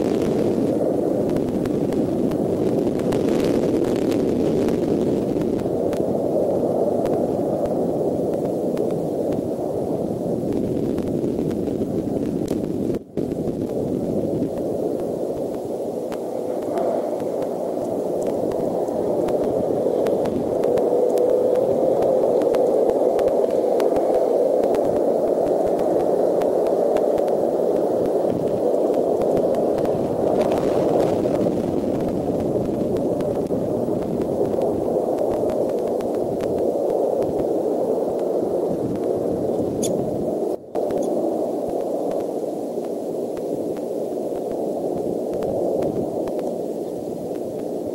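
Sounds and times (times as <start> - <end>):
low rushing noise: 0.0 - 47.9.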